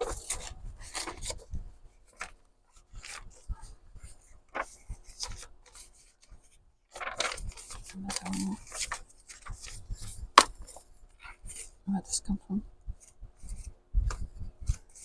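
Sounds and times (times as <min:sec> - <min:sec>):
paper pages rustling: 0:00.0 - 0:11.8, 0:13.0 - 0:15.0.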